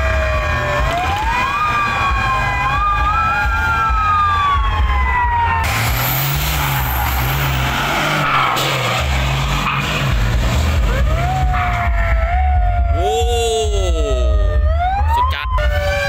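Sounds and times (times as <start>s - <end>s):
truck diesel engine revving: 0.0s - 13.0s.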